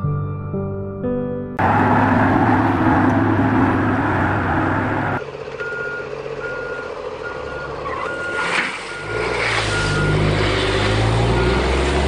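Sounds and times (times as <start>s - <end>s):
truck engine running: 1.6s - 12.0s.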